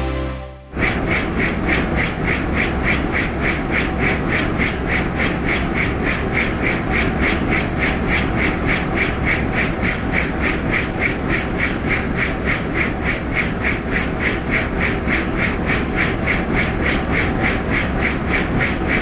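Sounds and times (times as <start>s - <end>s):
helicopter rotor beating: 0.7s - 19.0s.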